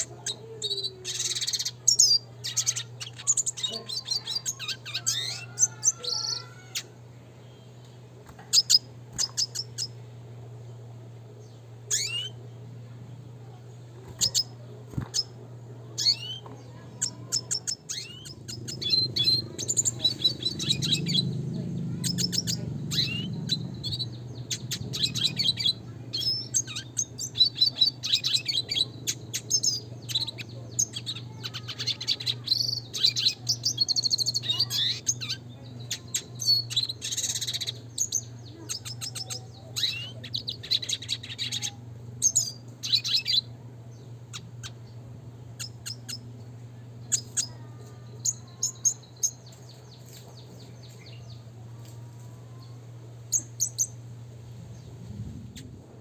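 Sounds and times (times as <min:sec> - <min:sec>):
bird twittering song: 0:00.0 - 0:51.7, 0:52.5 - 0:56.0
steady low hum: 0:00.0 - 0:56.0.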